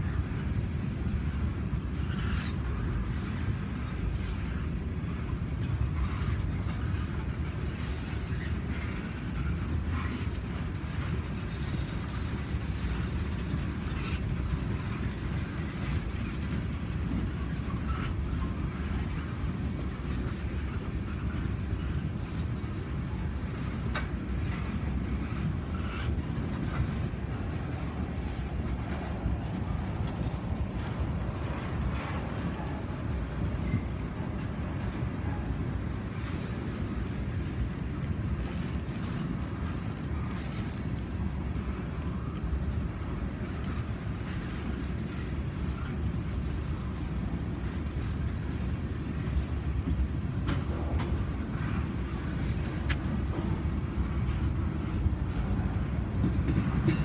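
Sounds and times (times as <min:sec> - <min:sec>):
train rumbling by: 0:00.0 - 0:57.0.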